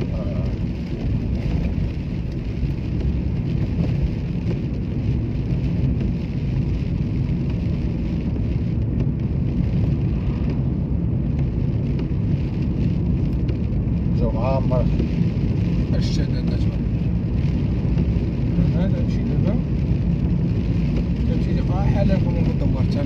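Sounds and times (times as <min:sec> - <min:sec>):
rain on car: 0:00.0 - 0:23.0
road noise inside car: 0:00.0 - 0:23.0
wind: 0:00.0 - 0:23.0.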